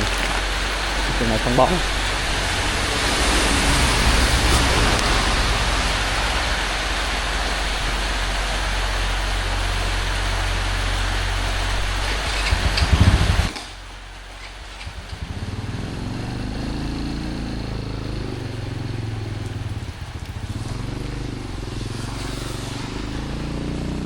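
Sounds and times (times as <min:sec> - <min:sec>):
low steady rumble: 0:00.0 - 0:24.0
steady rain hiss: 0:00.0 - 0:24.0.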